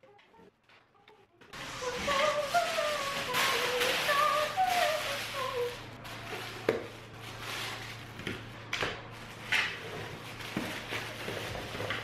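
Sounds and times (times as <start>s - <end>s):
plastic packaging crinkling: 1.6s - 12.0s.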